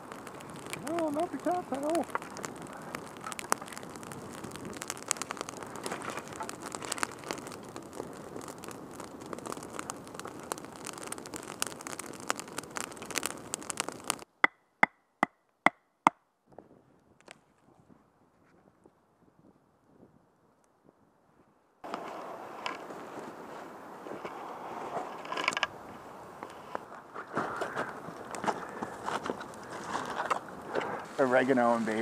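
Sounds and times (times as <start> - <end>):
campfire crackling and popping: 0.0 - 16.2, 17.0 - 17.6, 21.8 - 32.0.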